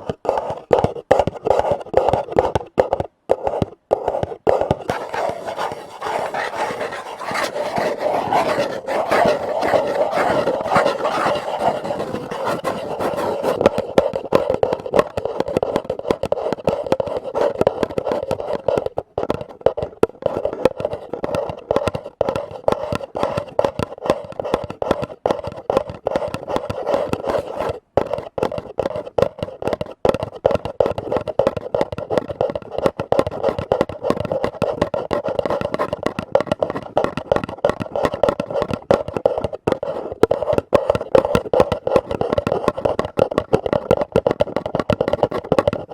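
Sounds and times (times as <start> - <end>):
rapid tapping on lids: 0.0 - 45.9.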